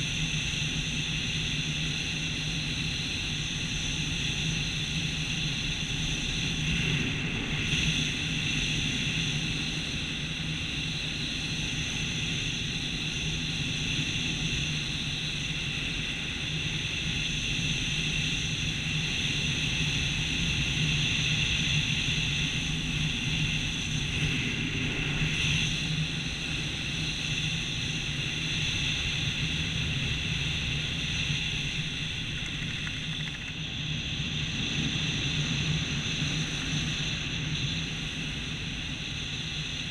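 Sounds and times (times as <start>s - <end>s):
constant low hum: 0.0s - 39.9s
wind rushing over camera: 3.8s - 39.9s.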